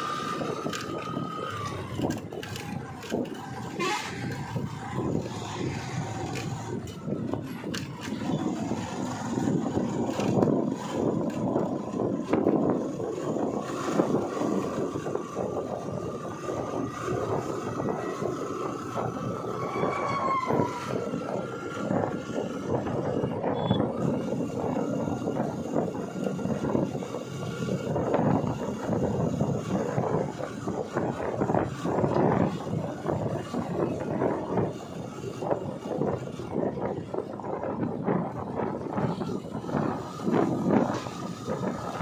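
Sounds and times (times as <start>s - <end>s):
vehicle engine and tyre noise: 0.0s - 42.0s
wind on microphone: 0.0s - 42.0s.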